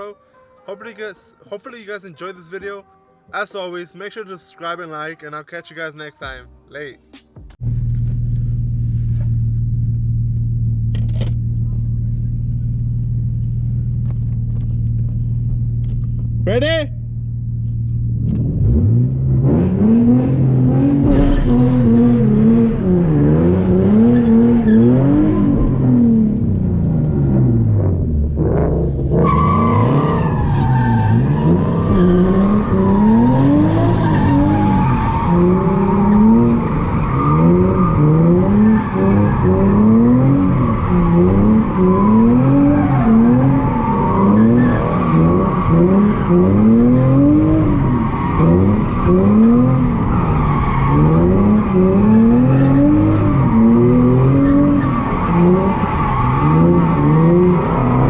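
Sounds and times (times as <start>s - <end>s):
car engine revving: 7.6s - 58.0s.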